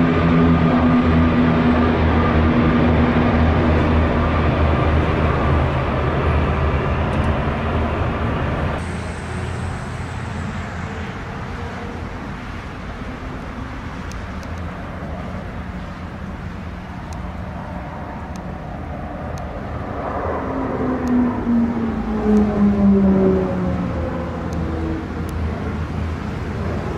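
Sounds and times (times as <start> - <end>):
distant aircraft rush: 0.0 - 26.9
propeller planes humming: 0.0 - 26.9.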